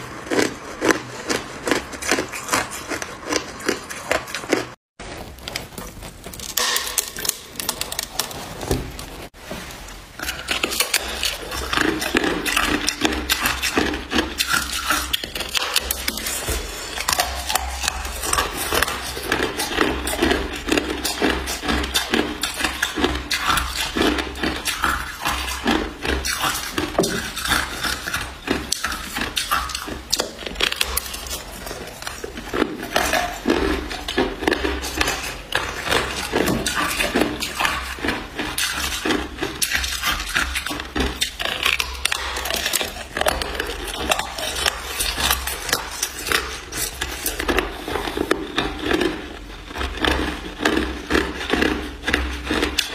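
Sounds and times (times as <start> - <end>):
ice being chewed: 0.0 - 4.8, 5.4 - 9.4, 10.2 - 52.9.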